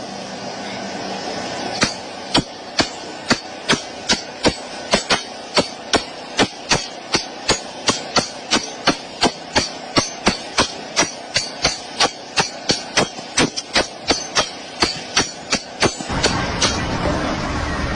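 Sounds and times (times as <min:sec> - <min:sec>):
hammer blows: 0:01.7 - 0:17.1.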